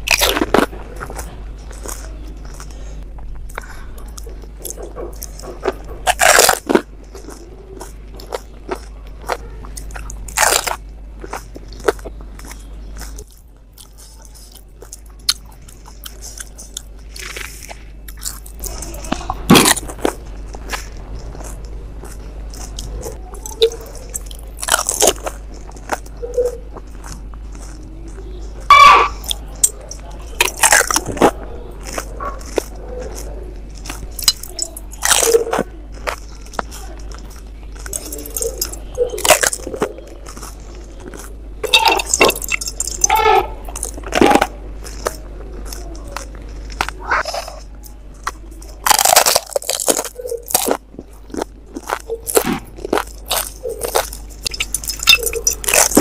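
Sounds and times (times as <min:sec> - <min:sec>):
crunching and chewing crisp shells: 0:00.0 - 0:56.0.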